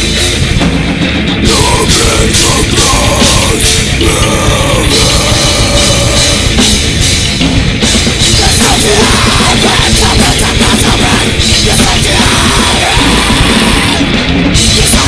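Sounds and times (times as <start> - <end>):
distorted electric guitars: 0.0 - 15.0
drum kit: 0.0 - 15.0.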